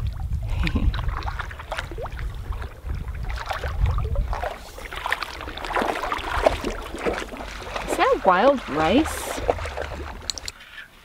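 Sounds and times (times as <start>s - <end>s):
paddle splashing in water: 0.0s - 10.6s
water dripping: 0.0s - 10.6s.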